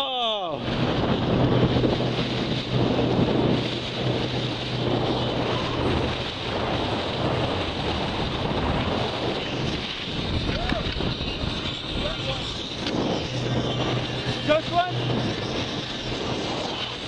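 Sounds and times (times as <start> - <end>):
wind noise on microphone: 0.0 - 17.0
water rushing past boat hull: 0.5 - 17.0
low engine hum: 0.6 - 17.0.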